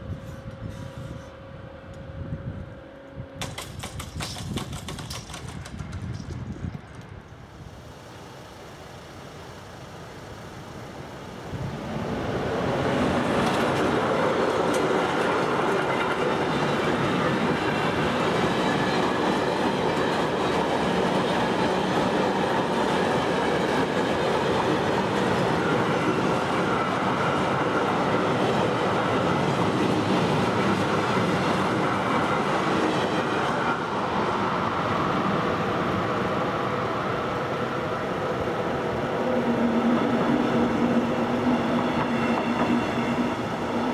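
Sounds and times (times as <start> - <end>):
freight train passing: 0.0 - 43.9.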